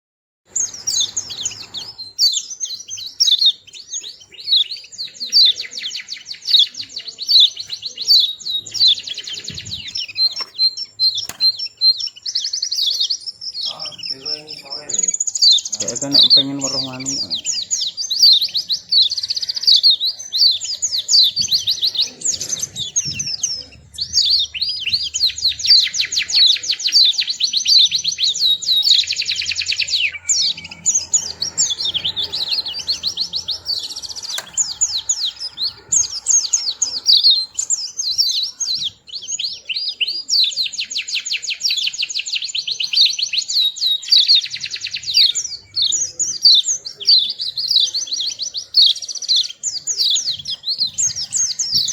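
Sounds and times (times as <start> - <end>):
bird twittering chirps: 0.5 - 51.9.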